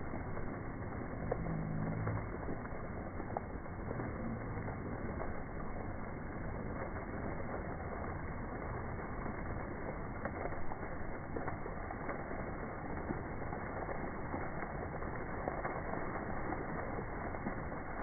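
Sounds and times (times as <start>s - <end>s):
slowed waterfall splashing: 0.0s - 18.0s.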